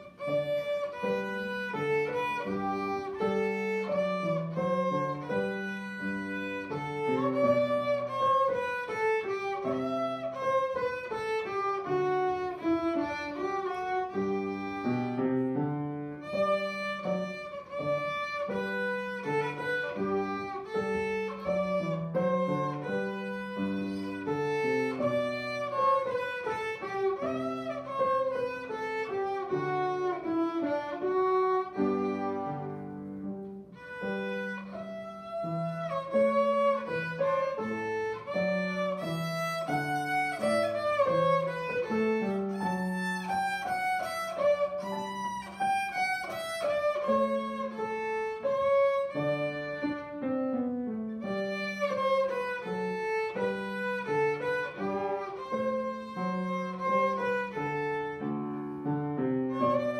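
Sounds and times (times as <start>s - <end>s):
piano accompaniment: 0.0s - 59.9s
violin melody: 0.0s - 59.9s.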